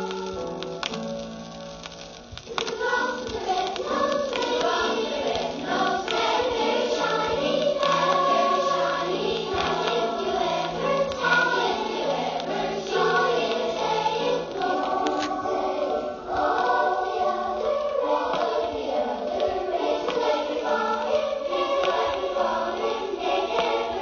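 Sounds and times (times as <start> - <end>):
choir singing: 2.5 - 24.0.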